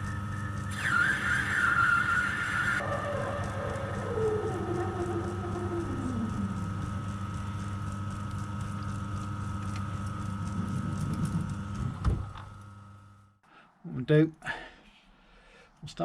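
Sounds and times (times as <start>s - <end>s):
machine tool motor humming: 0.0s - 13.4s.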